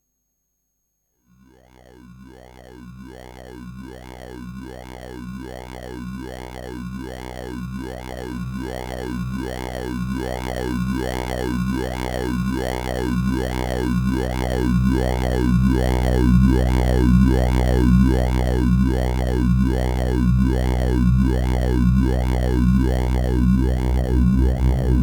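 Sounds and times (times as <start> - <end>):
low synth tone with filter sweep: 2.0 - 25.0.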